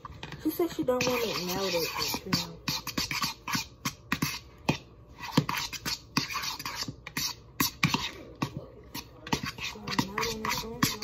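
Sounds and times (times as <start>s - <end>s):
utensil scraping a bowl: 0.0s - 11.0s.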